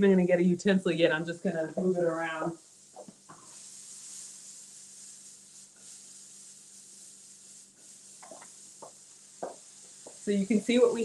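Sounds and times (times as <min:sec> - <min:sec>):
apple sizzling in butter: 0:01.5 - 0:11.0.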